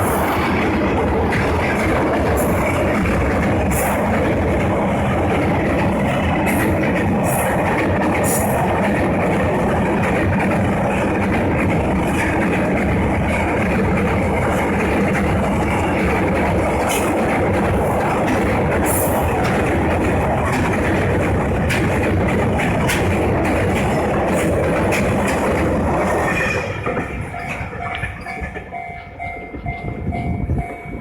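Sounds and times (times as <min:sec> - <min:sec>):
sharp clacks of train wheels: 0:00.0 - 0:31.0
train wheels rumbling on track: 0:00.0 - 0:31.0.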